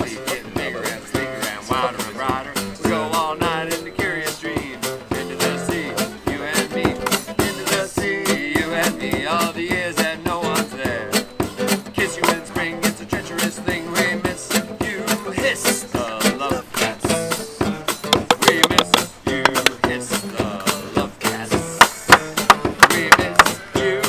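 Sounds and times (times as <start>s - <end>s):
plucked guitar music: 0.0s - 24.0s
steady beat: 0.0s - 24.0s.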